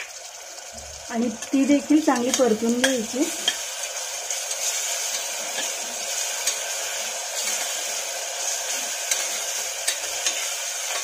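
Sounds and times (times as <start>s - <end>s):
onion sizzling in hot oil: 0.0s - 11.0s
spatula stirring: 2.1s - 11.0s.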